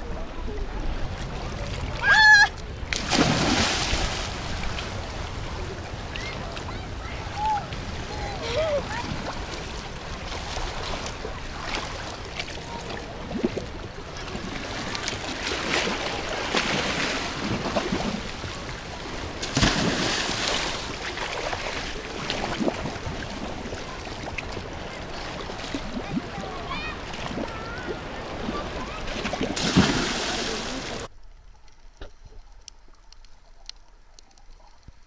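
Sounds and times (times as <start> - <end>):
waves splashing against breakwater: 0.0 - 31.1
swimmers splashing: 1.3 - 31.1.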